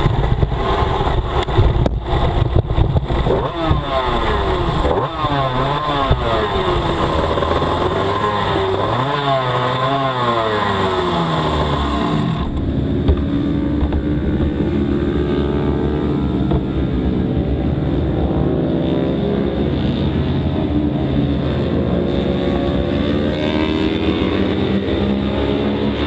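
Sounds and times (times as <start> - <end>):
two-stroke motorcycle engine: 0.0 - 26.0.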